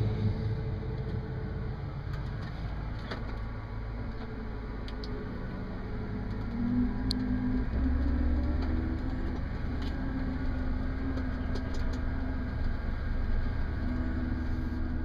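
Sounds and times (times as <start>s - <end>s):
combine engine drone: 0.0s - 15.0s
steady hum: 0.0s - 15.0s.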